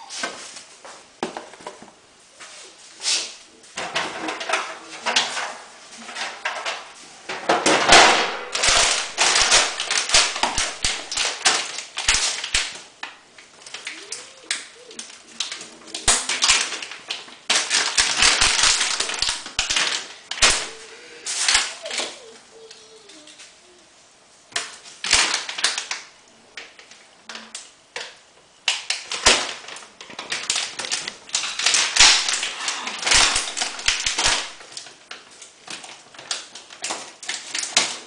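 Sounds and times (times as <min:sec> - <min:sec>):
rustling and crackling of handling: 0:00.0 - 0:38.0.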